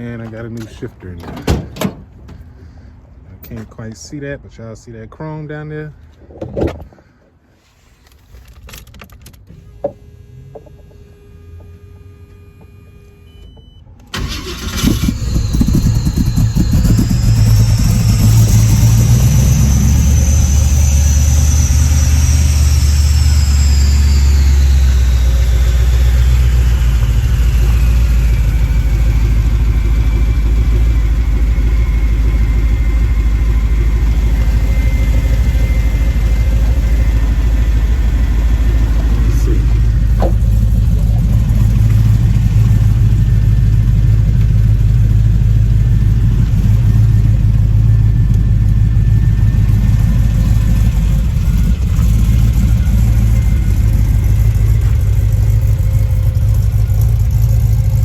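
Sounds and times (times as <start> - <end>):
car engine starting and idling: 8.0 - 58.0
high engine whine: 9.5 - 58.0.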